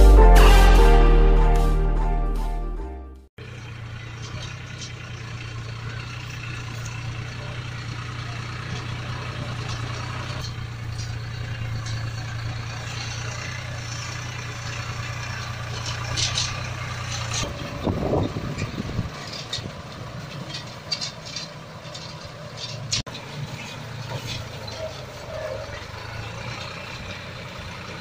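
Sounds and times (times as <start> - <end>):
truck engine idling: 3.4 - 28.0.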